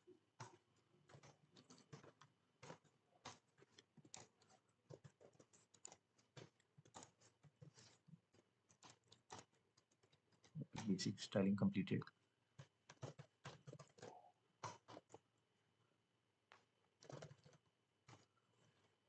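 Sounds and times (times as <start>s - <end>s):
typing on a keyboard: 0.4s - 11.4s, 12.0s - 15.2s, 16.5s - 18.9s.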